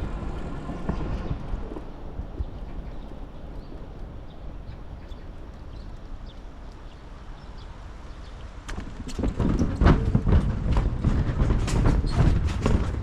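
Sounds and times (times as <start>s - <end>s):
road rumble: 0.0s - 13.0s
wind: 0.0s - 13.0s
bicycle clattering and rattling: 2.2s - 13.0s.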